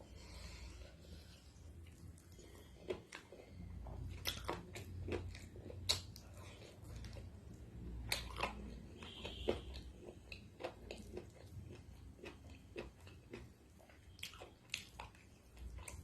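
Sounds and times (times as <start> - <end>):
chewing and biting food: 1.6 - 16.0.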